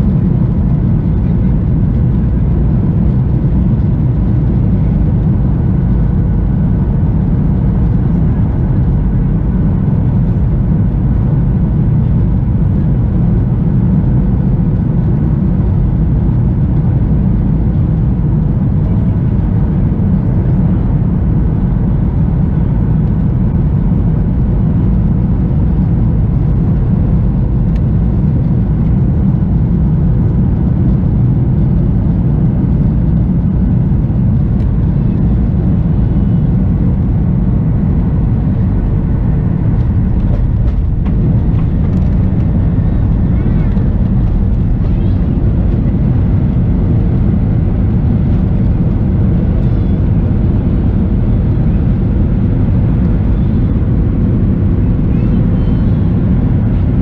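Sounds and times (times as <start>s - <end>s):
airliner cabin rumble: 0.0s - 57.0s
faint steady engine tones: 0.0s - 57.0s.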